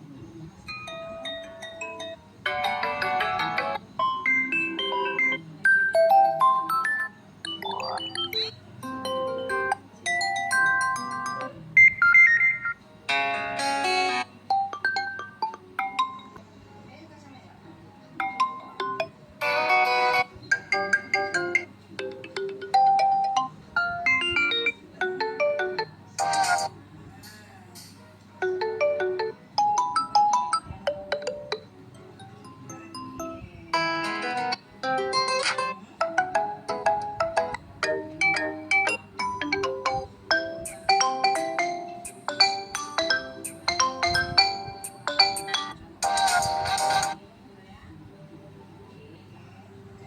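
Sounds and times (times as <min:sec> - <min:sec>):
phone ringtone melody: 0:00.7 - 0:16.4, 0:18.2 - 0:26.7, 0:28.4 - 0:31.6, 0:32.4 - 0:47.2.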